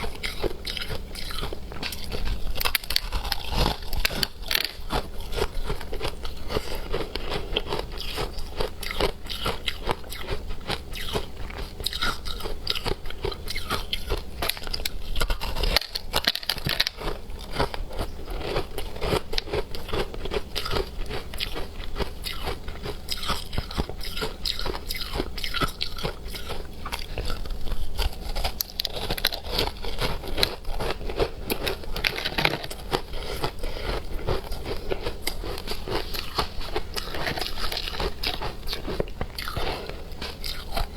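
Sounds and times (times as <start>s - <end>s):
teeth crunching frozen ice: 0.0s - 40.9s.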